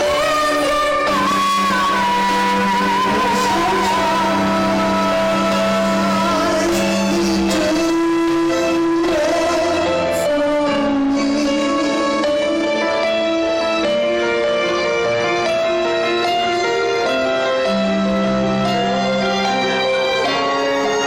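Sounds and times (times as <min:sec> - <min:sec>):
slow music with held notes: 0:00.0 - 0:21.0.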